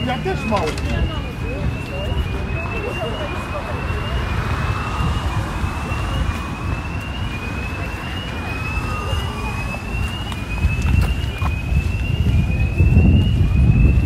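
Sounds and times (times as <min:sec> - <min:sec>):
city traffic rumble: 0:00.0 - 0:14.0
two-tone siren: 0:00.0 - 0:14.0.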